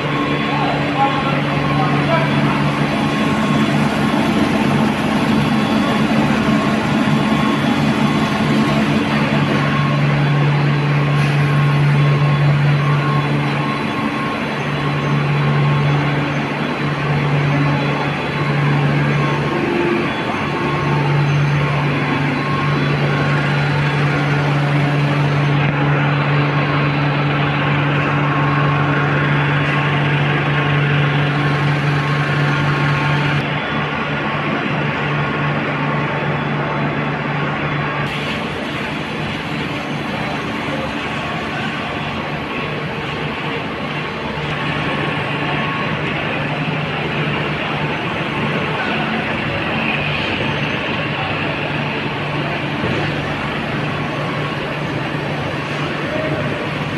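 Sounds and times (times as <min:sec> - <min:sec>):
machine hum: 0:00.0 - 0:56.9
machine whirring: 0:00.0 - 0:56.9.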